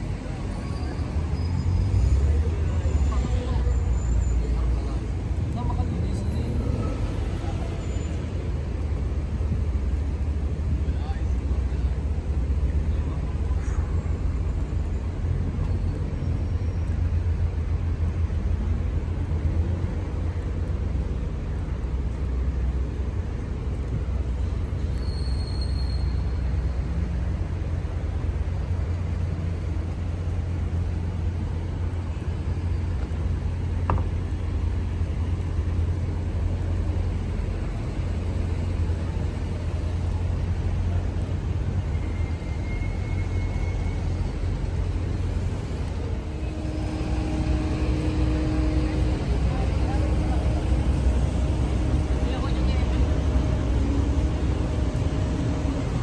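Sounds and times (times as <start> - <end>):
city traffic rumble: 0.0 - 56.0.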